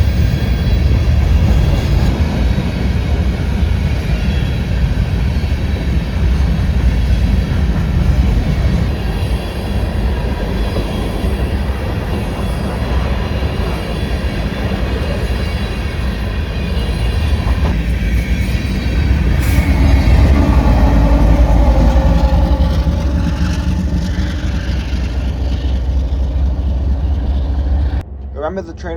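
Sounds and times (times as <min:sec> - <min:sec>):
train rumbling on rails: 0:00.0 - 0:28.9.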